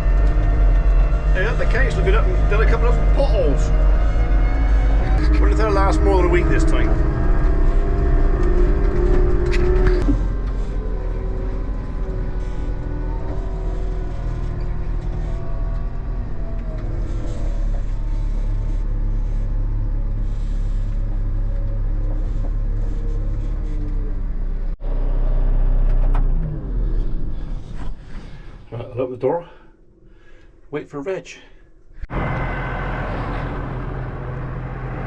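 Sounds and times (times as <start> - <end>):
tractor engine rumbling: 0.0 - 30.9, 31.6 - 35.0.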